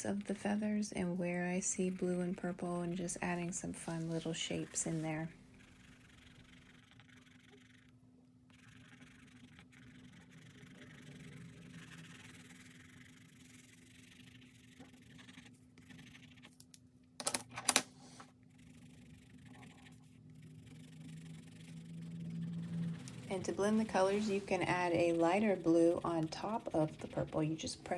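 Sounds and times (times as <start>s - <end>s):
colored pencil scratching on paper: 0.0s - 16.6s, 18.0s - 27.9s.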